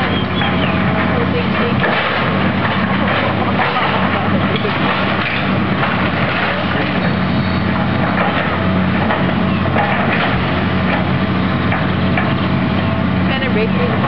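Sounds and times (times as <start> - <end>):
debris crunching: 0.0 - 14.0
excavator diesel engine running: 0.0 - 14.0
wood splintering: 0.0 - 14.0.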